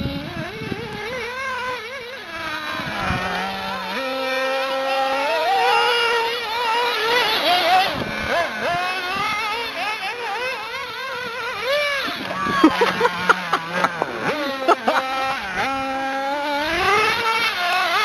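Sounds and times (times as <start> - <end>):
model car engine revving: 0.0 - 18.0.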